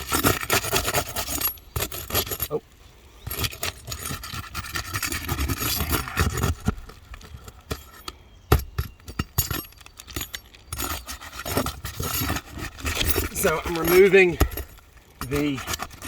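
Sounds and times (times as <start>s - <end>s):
roof shingles scraping: 0.0s - 8.1s, 8.9s - 16.0s.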